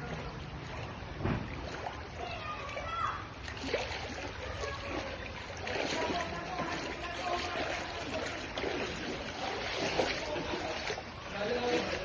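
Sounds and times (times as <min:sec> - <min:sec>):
faint voices: 0:00.0 - 0:12.0
floodwater rushing: 0:00.0 - 0:12.0.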